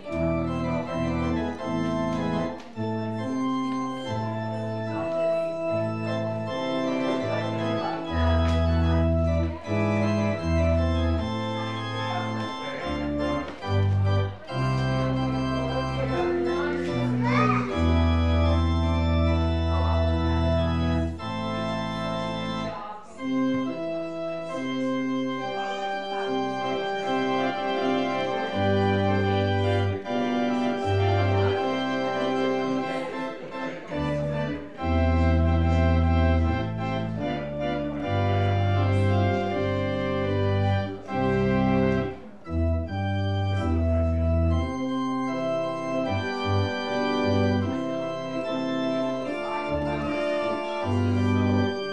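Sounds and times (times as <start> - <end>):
church organ chords: 0.0 - 51.9
deep organ pedal bass: 0.0 - 51.9.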